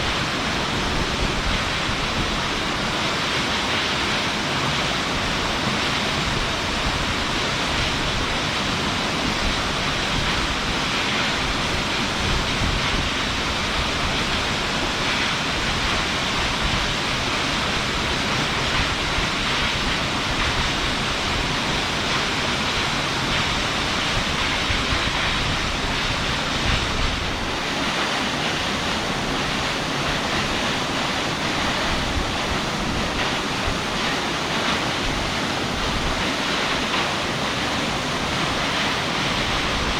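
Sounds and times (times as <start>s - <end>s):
low rumble of water: 0.0s - 39.9s
waterfall rushing: 0.0s - 39.9s.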